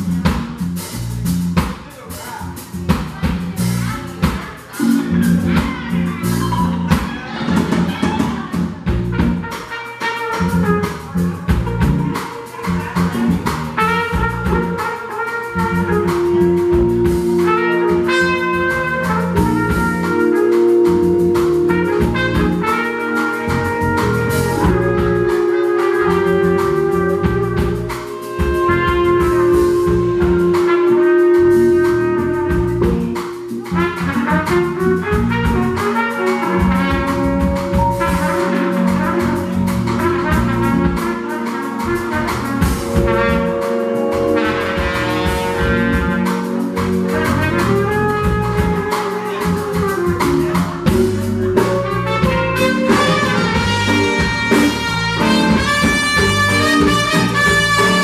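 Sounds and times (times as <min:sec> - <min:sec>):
drum kit: 0:00.0 - 0:58.0
keyboard rhythm section: 0:00.0 - 0:58.0
trumpet playing melody: 0:03.7 - 0:58.0.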